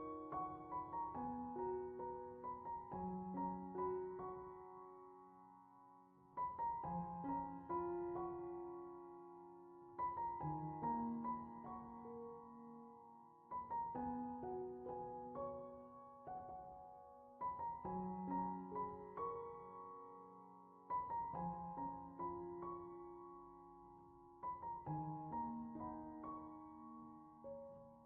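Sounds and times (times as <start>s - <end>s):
slow piano melody: 0.0s - 28.0s.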